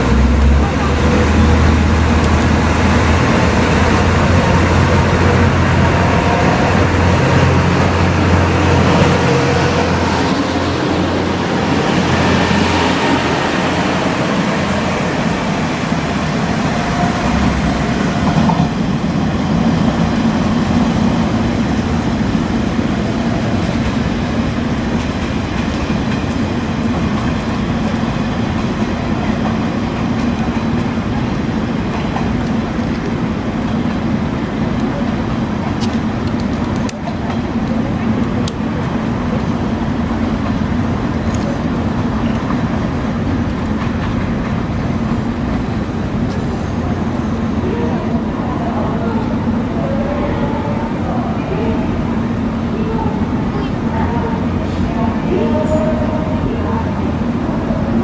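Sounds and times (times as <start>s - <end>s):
diesel railcar engine rumble: 0.0s - 58.0s
rail and wheel noise: 0.0s - 58.0s.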